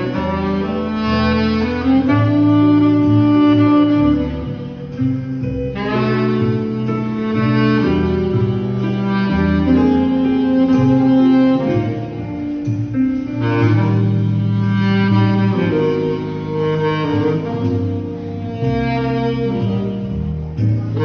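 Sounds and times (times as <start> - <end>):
bass and strings accompaniment: 0.0 - 21.0
tenor saxophone playing melody: 0.0 - 21.0.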